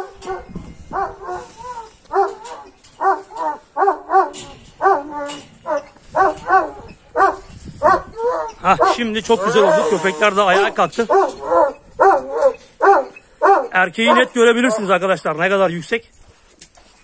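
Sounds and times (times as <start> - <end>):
dog barking: 0.0 - 10.1, 11.0 - 15.0.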